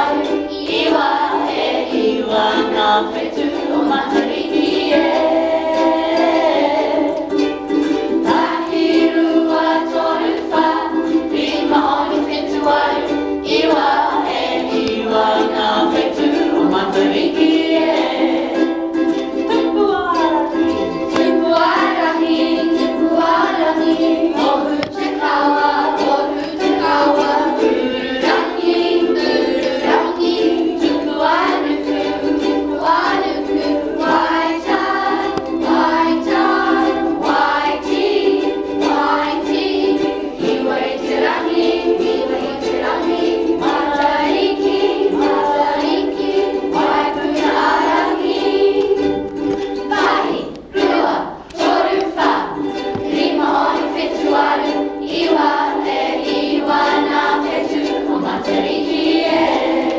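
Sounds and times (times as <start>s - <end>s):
children's choir singing: 0.0s - 59.9s
ukulele strumming: 0.0s - 59.9s.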